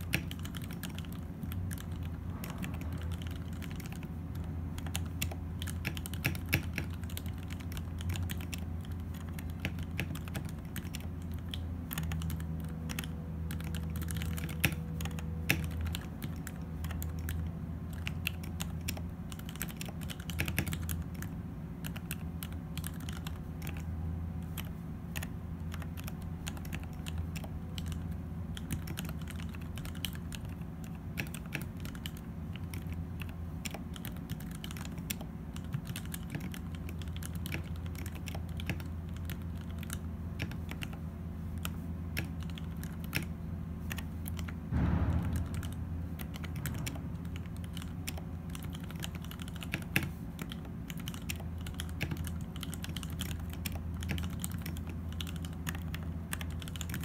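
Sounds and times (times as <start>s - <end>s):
mechanical keyboard typing: 0.0s - 41.0s, 41.6s - 44.6s, 45.2s - 57.0s.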